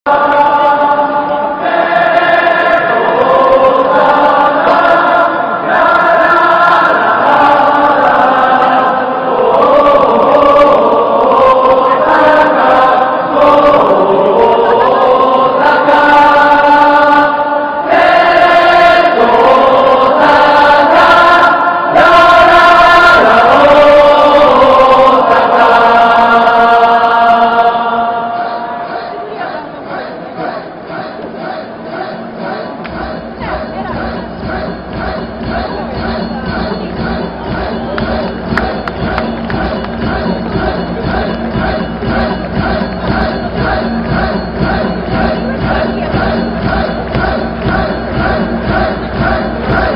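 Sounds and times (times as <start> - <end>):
stadium crowd singing in unison: 0.0 - 49.9.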